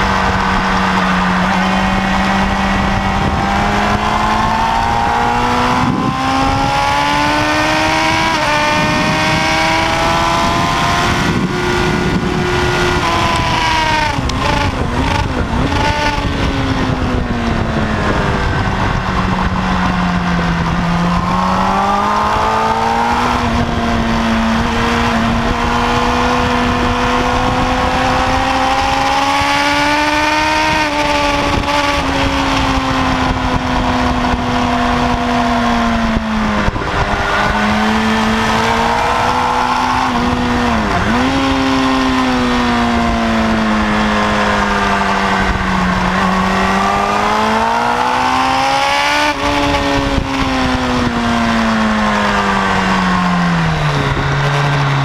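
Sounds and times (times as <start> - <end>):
motorcycle engine pulling hard: 0.0 - 55.0
wind rush: 0.0 - 55.0.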